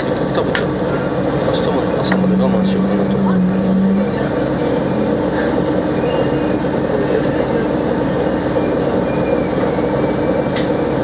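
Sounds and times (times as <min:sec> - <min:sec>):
train rumbling on rails: 0:00.0 - 0:11.0
high wheel squeals: 0:01.6 - 0:11.0.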